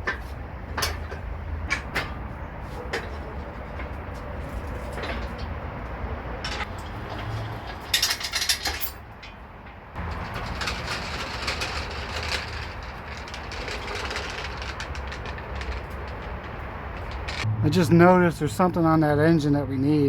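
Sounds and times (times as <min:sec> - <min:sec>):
metal clicks and knocks: 0:00.0 - 0:17.5
engine parts rattling: 0:00.0 - 0:18.7.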